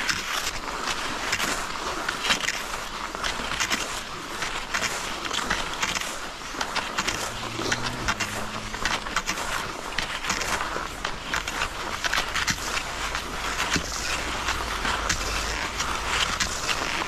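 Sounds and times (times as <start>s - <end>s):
skis swishing over snow: 0.0s - 17.0s.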